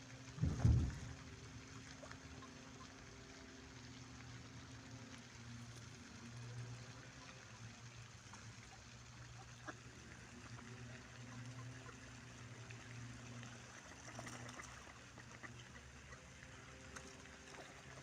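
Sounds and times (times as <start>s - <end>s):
low steady hum: 0.0s - 18.0s
water lapping and trickling: 0.0s - 18.0s.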